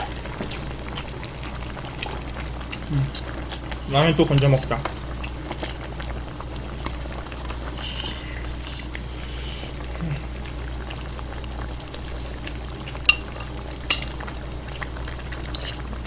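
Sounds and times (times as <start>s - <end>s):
pot bubbling at a simmer: 0.0s - 16.0s.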